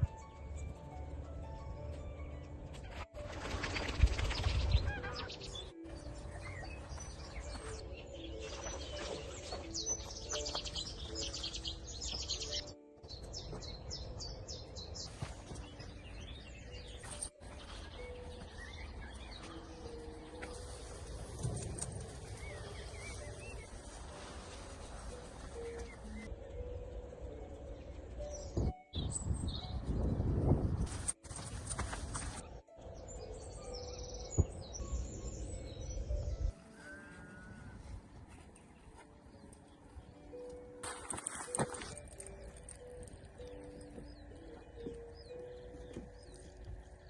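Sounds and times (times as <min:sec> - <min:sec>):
small birds chirping and trilling: 0:03.7 - 0:30.9, 0:31.5 - 0:47.0.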